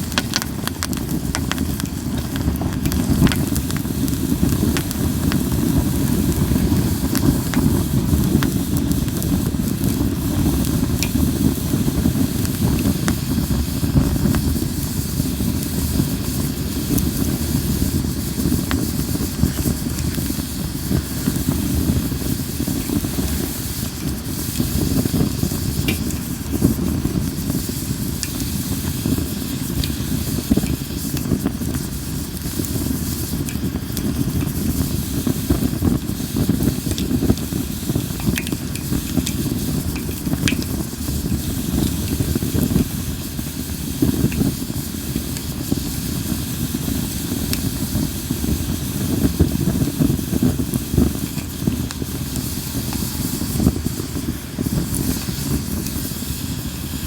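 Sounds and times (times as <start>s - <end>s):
campfire flames rushing: 0.0s - 57.0s
fire crackling and popping: 0.0s - 57.0s.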